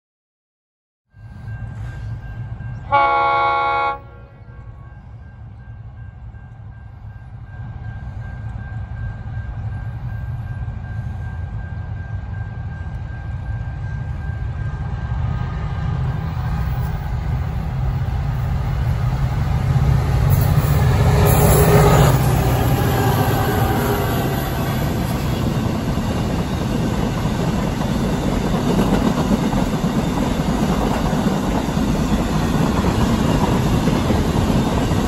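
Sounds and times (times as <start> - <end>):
diesel locomotive engine rumble: 1.1 - 35.0
train rattle and hiss: 6.5 - 35.0.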